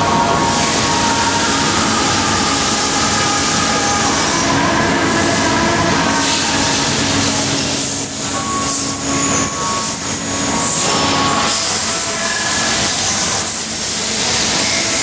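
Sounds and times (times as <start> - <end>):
lathe machine noise: 0.0 - 15.0
thin high whining tones: 0.0 - 15.0.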